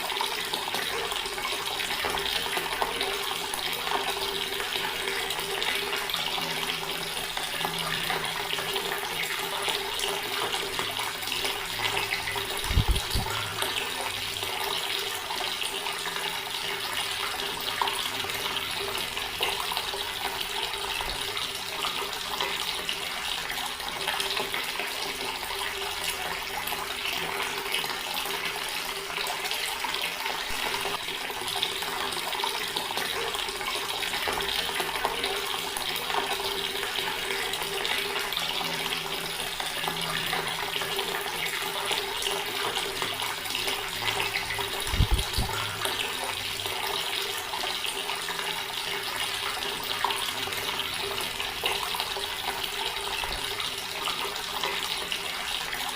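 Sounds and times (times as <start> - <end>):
tap water splashing into basin: 0.0 - 55.9.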